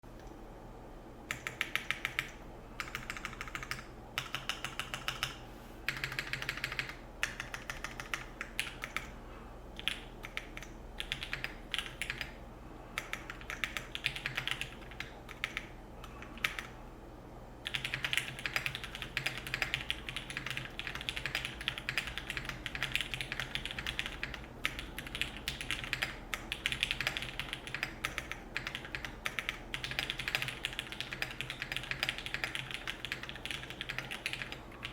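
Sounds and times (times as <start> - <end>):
mechanical keyboard typing: 1.3 - 9.1, 9.8 - 12.4, 13.0 - 16.7, 17.6 - 34.9.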